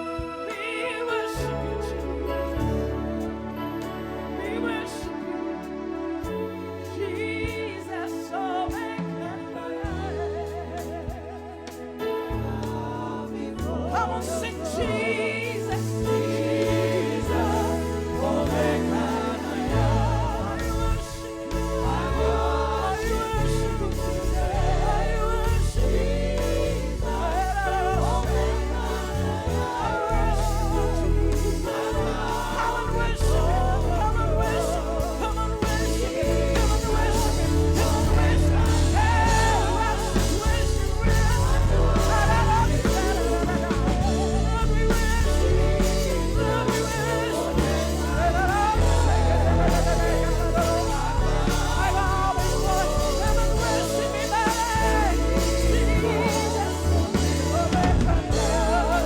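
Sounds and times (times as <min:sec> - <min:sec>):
band playing: 0:00.0 - 0:59.0
voices singing gospel: 0:00.0 - 0:59.0.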